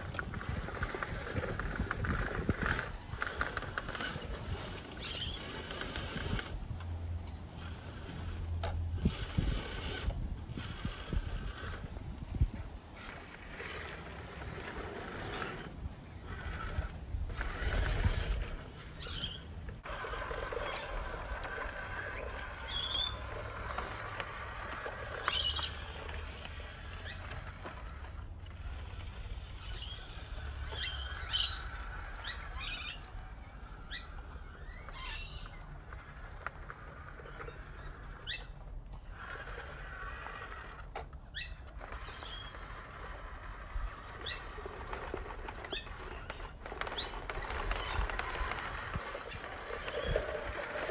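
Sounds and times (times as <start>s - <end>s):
wind rumbling on microphone: 0.0s - 36.2s, 41.4s - 50.9s
toy truck motor and gears whirring: 0.0s - 50.9s.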